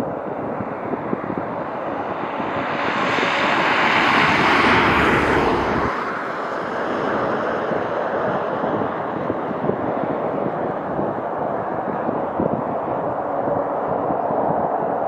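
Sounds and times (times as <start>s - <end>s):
jet airliner flying past: 0.0s - 15.0s.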